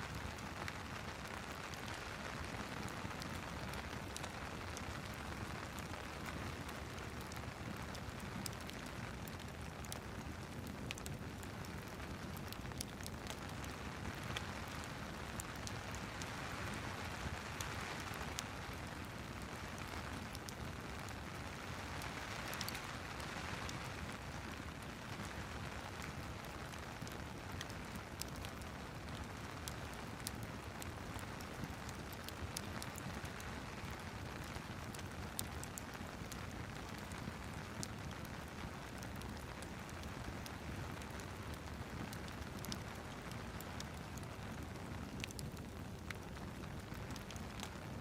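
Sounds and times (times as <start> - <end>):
crackling fireplace: 0.0 - 48.0
steady rain hissing: 0.0 - 48.0.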